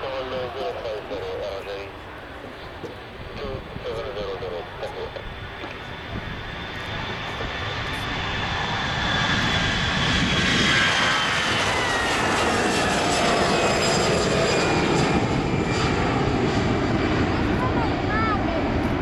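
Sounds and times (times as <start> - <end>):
jet engines at takeoff thrust: 0.0 - 19.0.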